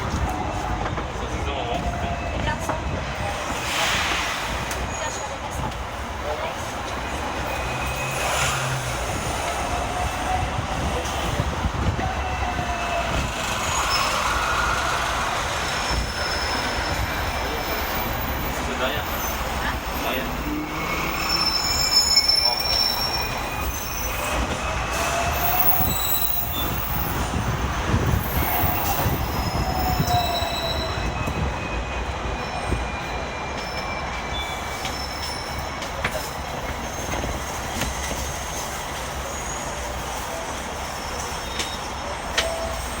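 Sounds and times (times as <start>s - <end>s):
tram rumbling on rails: 0.0s - 43.0s
wheel squeals: 6.6s - 43.0s.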